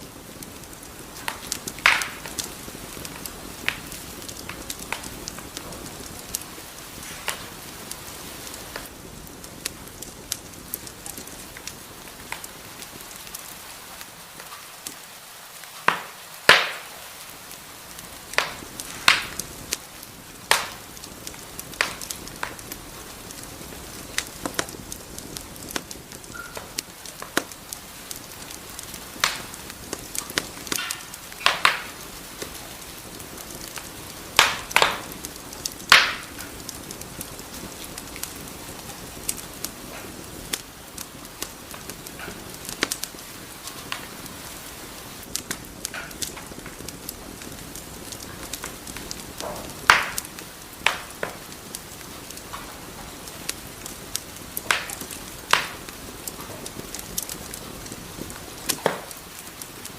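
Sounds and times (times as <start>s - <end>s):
fire hissing: 0.0s - 59.9s
wood fire popping: 0.0s - 59.9s.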